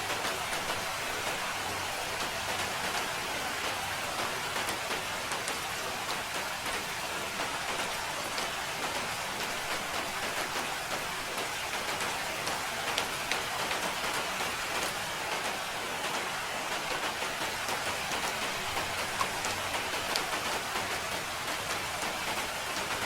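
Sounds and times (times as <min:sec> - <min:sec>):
steady rain hiss: 0:00.0 - 0:23.0
drops ticking on a surface: 0:02.1 - 0:23.0.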